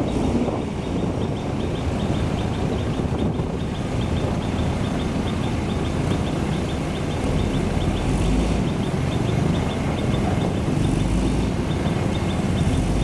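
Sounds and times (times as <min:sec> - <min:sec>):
diesel engine running under load: 0:00.0 - 0:13.0
rapid high ticking: 0:00.0 - 0:13.0.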